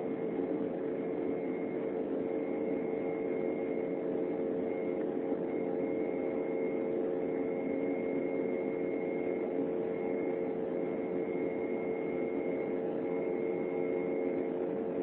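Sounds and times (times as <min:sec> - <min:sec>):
constant whine: 0:00.0 - 0:15.0.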